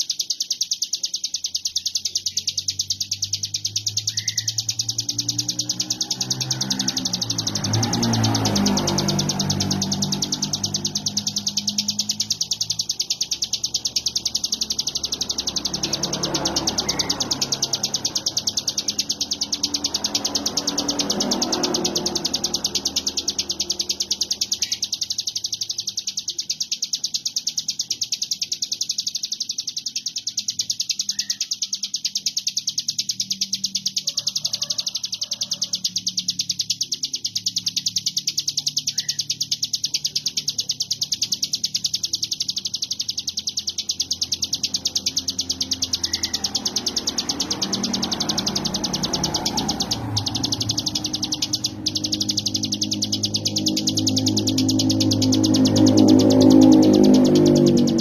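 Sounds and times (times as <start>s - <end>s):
bird singing fast buzzing trill: 0.0s - 58.0s.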